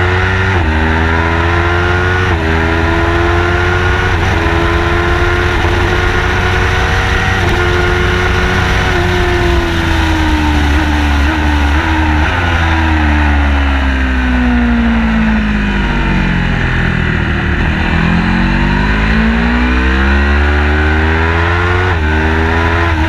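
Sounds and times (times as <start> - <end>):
car engine revving: 0.0 - 23.0
road and wind noise: 0.0 - 23.0.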